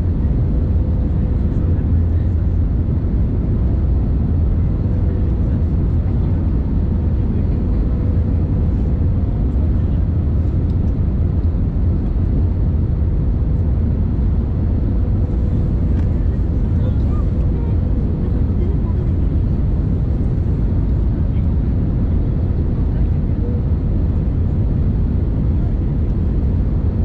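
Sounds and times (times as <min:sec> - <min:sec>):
aircraft cabin rumble: 0:00.0 - 0:27.0.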